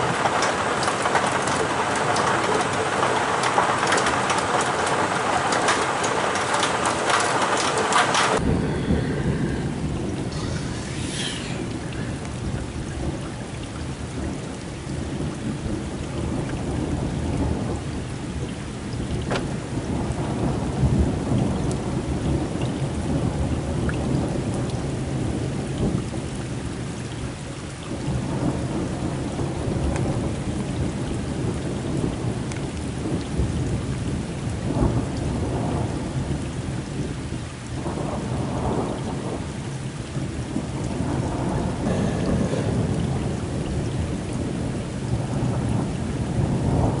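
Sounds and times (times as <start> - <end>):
sharp thunderclaps: 0.0 - 18.5, 19.1 - 26.3, 28.0 - 37.2, 37.8 - 47.0
heavy rain falling: 0.0 - 47.0
thunder rumbling: 0.0 - 47.0.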